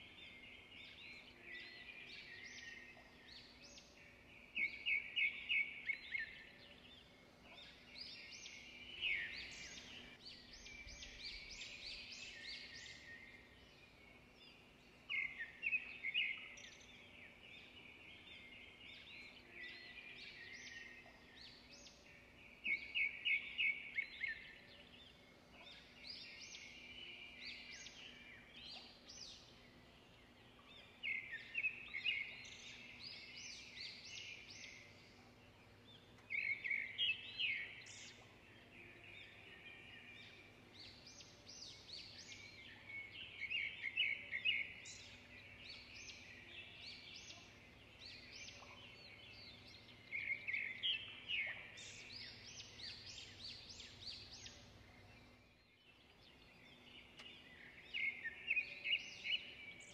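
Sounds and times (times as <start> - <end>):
birds chirping and singing: 0.0 - 59.9
faint steady hum: 0.0 - 59.9.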